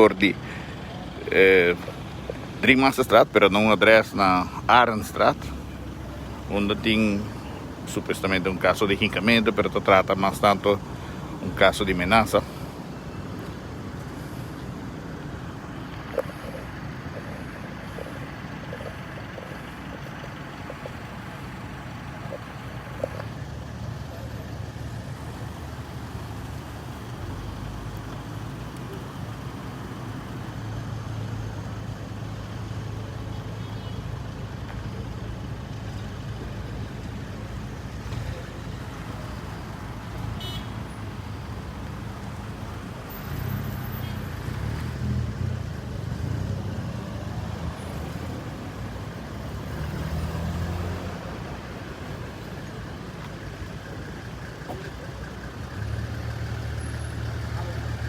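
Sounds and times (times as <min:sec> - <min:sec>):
traffic engine rumble: 0:00.0 - 0:58.0
vehicles passing: 0:00.0 - 0:58.0.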